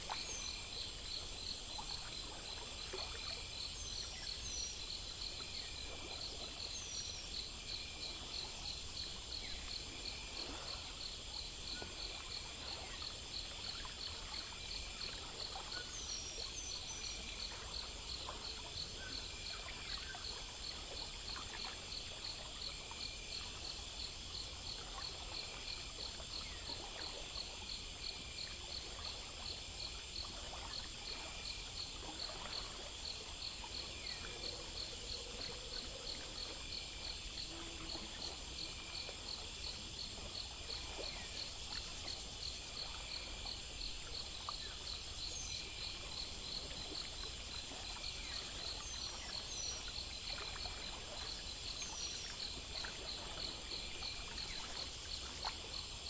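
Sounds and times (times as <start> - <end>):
crickets chirping: 0.0 - 56.0
faint trickling water: 0.0 - 56.0
insect drone: 0.0 - 56.0.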